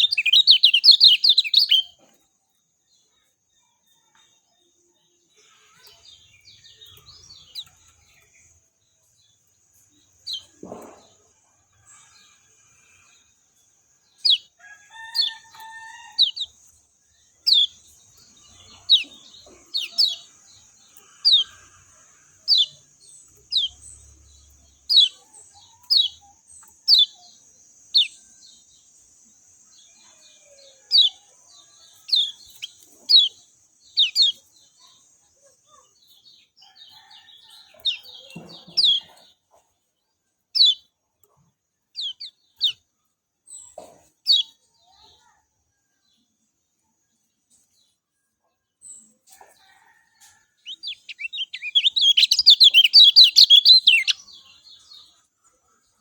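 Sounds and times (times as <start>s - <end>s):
songbird sharp chirps: 0.0s - 2.2s, 2.9s - 11.2s, 12.9s - 39.6s, 40.5s - 45.3s, 48.8s - 56.0s.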